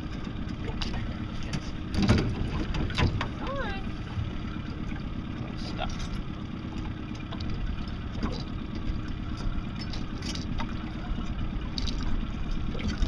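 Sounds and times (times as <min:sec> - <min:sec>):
small boat rumbling: 0:00.0 - 0:13.0.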